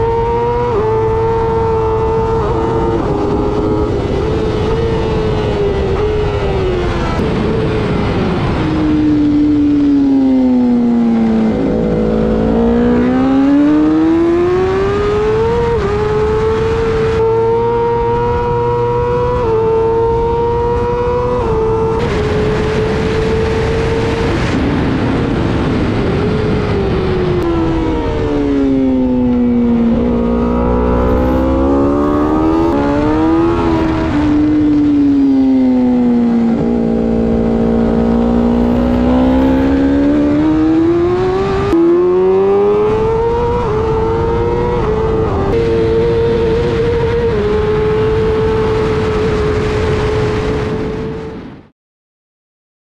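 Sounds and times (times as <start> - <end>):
motorcycle engine revving: 0.0 - 51.5
wind rush: 0.0 - 51.7.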